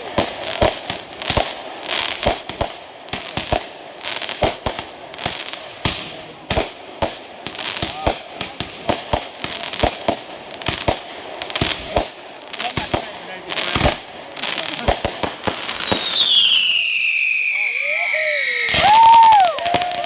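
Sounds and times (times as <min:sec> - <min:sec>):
fireworks bangs and pops: 0:00.0 - 0:20.0
fireworks crackling: 0:00.0 - 0:20.0.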